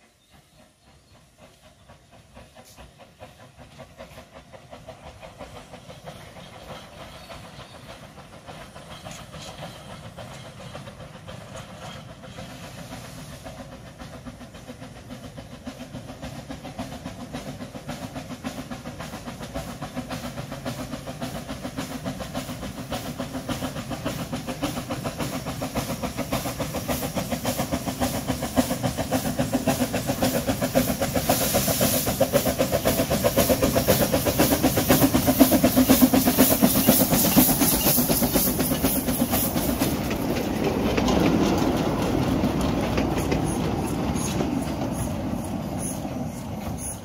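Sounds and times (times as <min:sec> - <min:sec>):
steam hissing: 0:00.0 - 0:47.0
steam locomotive exhaust beats: 0:00.0 - 0:47.0
coaches clattering over rail joints: 0:01.4 - 0:47.0.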